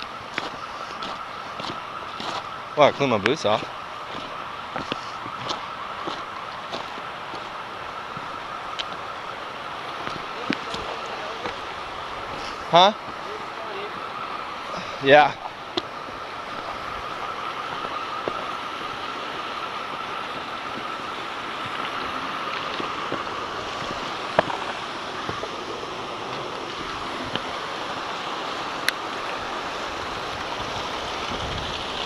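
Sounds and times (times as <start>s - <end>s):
rushing river water: 0.0s - 32.0s.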